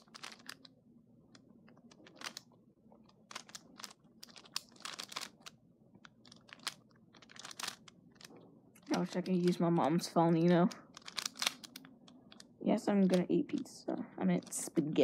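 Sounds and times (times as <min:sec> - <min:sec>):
plastic puzzle clicking: 0:00.0 - 0:13.7.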